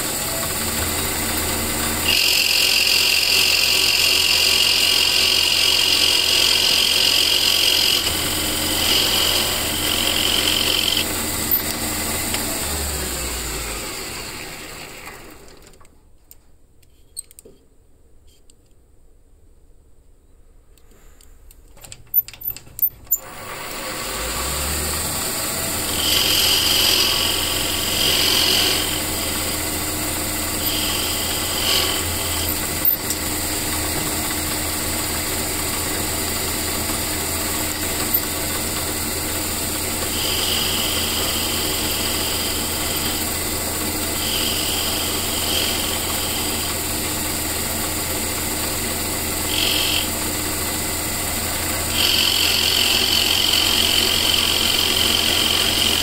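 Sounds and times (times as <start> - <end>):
lathe tool cutting: 0.0 - 15.6, 23.2 - 56.0
metal lathe humming: 0.0 - 15.6, 23.1 - 56.0.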